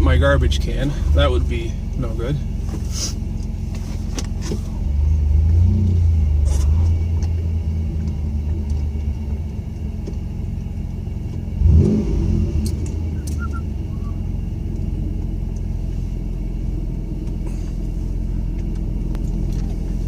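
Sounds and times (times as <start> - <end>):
car engine rumble from cabin: 0.0 - 20.0.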